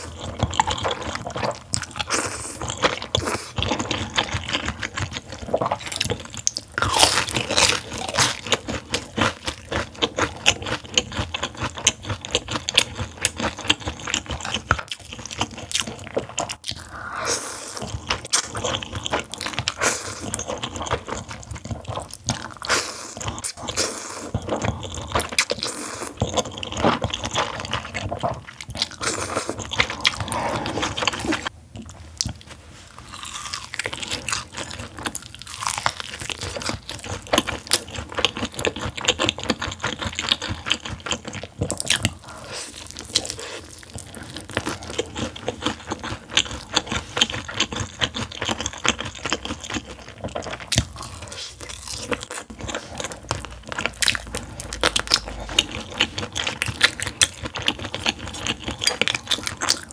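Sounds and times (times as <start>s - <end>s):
crunching fried chicken: 0.0s - 31.5s, 33.0s - 59.9s
chewing and slurping noodles: 0.0s - 59.9s.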